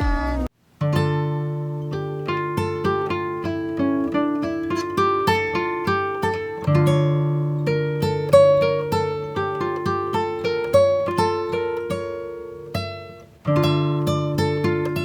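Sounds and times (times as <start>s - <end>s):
acoustic guitar picking melody: 0.6s - 15.0s.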